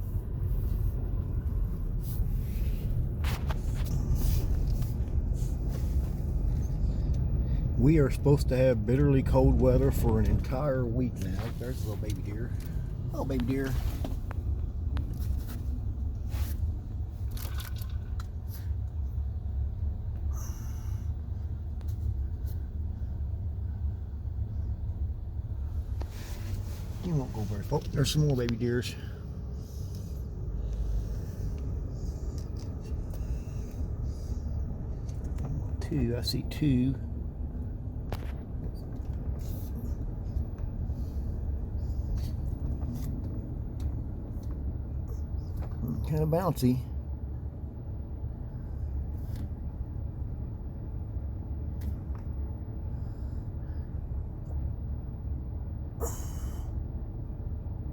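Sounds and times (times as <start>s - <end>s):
car rolling slowly from inside: 0.0s - 57.9s.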